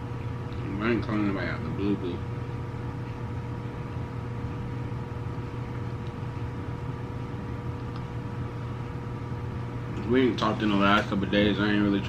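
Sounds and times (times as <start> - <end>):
faint steady whine: 0.0 - 12.0
low mechanical hum: 0.0 - 12.0.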